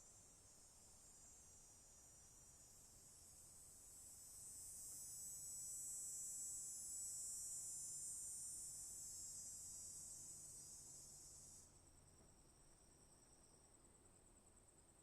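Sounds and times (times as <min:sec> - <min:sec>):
cicadas buzzing: 0:00.0 - 0:14.6.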